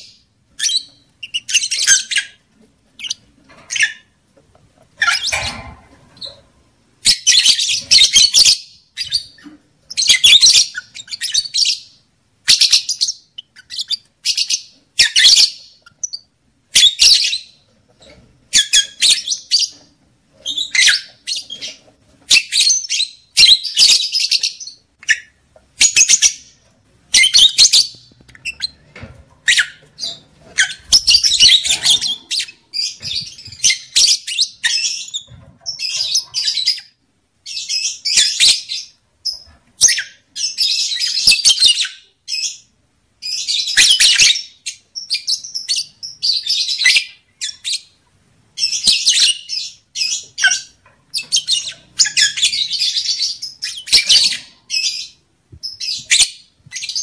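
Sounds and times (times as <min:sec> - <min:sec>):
lovebirds chattering: 0:00.0 - 0:04.1, 0:07.0 - 0:47.9, 0:48.6 - 0:57.0.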